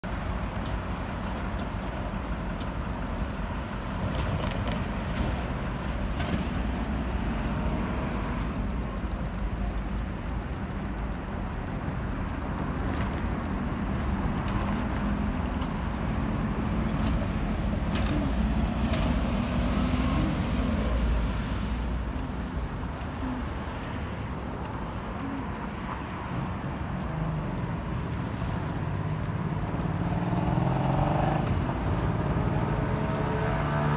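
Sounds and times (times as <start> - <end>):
cars and trucks passing: 0.0 - 33.9.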